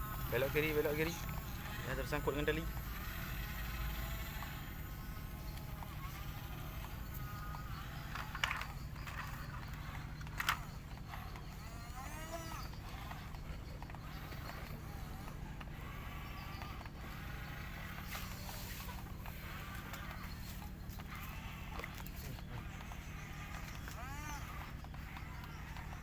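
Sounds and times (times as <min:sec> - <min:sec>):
diesel machinery rumbling: 0:00.0 - 0:26.0.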